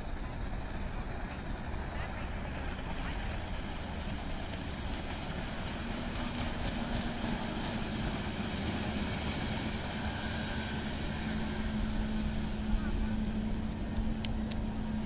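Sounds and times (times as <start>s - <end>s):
motorboat engine running: 0.0s - 15.0s
water rushing: 0.0s - 15.0s.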